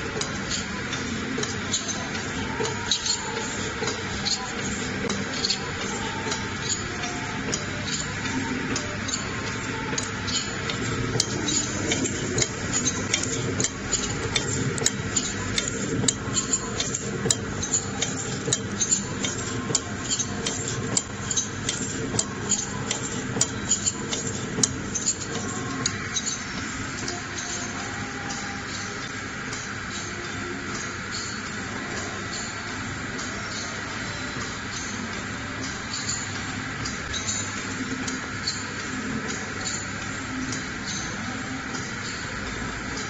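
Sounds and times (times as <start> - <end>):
machine humming: 0.0 - 43.0
machine parts clicking and clacking: 0.0 - 43.0.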